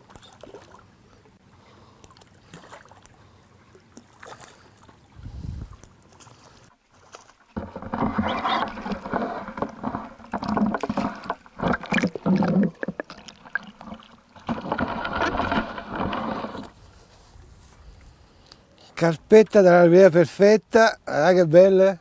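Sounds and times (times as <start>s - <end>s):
water splashing and sloshing: 0.0s - 18.2s.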